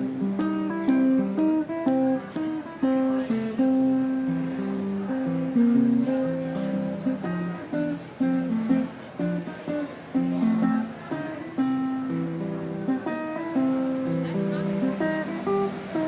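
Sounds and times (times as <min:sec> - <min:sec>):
plucked string chords: 0:00.0 - 0:16.0.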